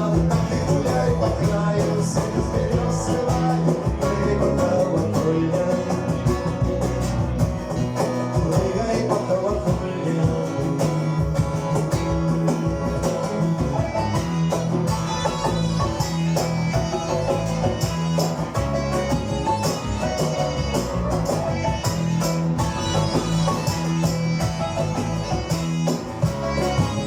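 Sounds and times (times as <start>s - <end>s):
plucked guitars: 0.0s - 27.0s
steady drum beat: 0.0s - 27.0s
sustained bass notes: 0.0s - 27.0s.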